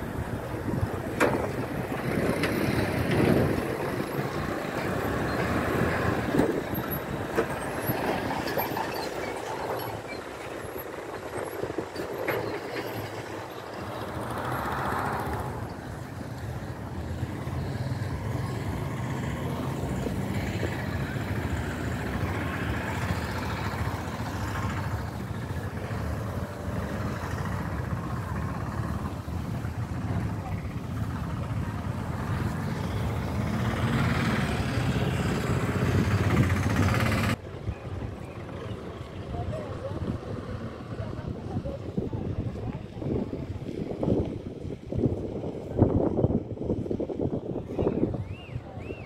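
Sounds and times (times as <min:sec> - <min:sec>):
road traffic: 0:00.0 - 0:49.0.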